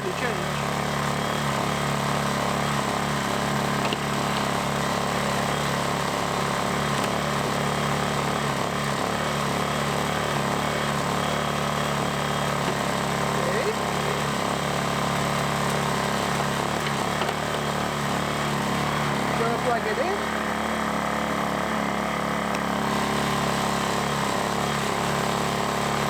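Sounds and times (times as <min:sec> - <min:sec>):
generator running steadily: 0:00.0 - 0:26.0.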